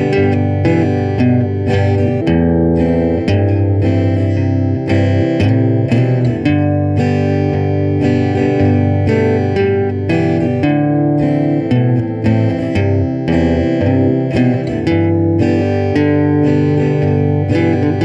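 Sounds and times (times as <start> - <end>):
plucked guitar music: 0.0 - 18.0.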